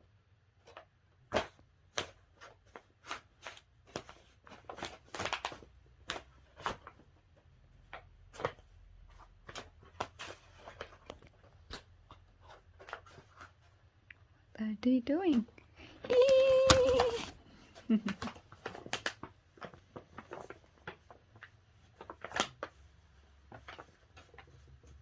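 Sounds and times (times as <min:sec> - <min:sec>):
cats scrabbling in a bag: 0:00.6 - 0:13.8, 0:16.1 - 0:25.0.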